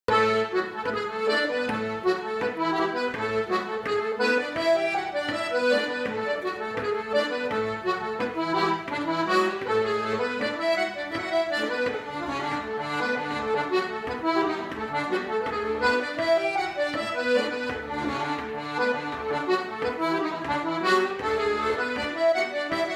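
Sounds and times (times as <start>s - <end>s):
accordion playing lively tune: 0.0s - 22.9s.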